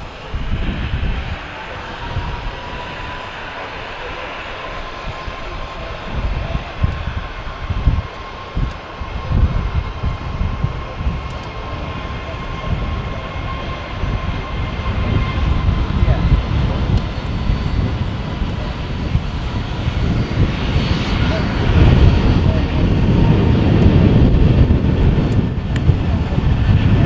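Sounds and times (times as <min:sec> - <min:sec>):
jet engine whine: 0:00.0 - 0:27.0
low rumble: 0:00.0 - 0:27.0.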